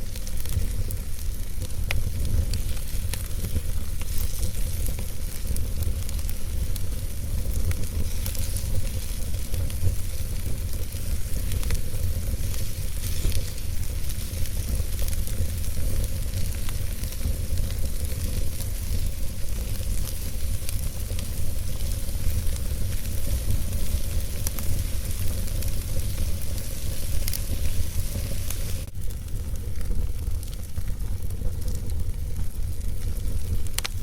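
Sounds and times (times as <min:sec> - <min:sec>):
fire hissing: 0:00.0 - 0:34.0
wood fire crackling and popping: 0:00.0 - 0:34.0.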